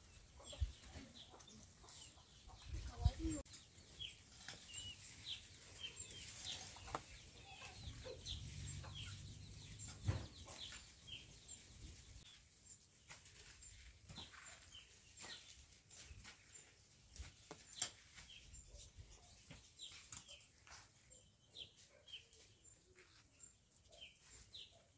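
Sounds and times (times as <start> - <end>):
chickens clucking and peeping: 0.0 - 24.9.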